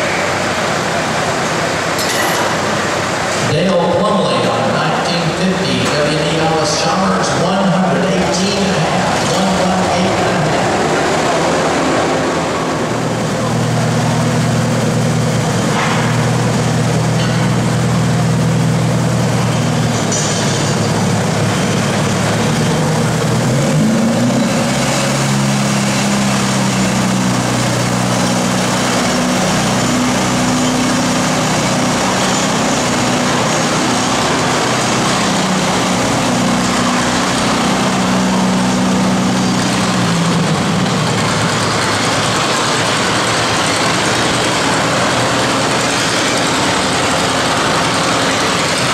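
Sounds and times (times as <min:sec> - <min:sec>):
tractor engine idling: 0:00.0 - 0:48.9.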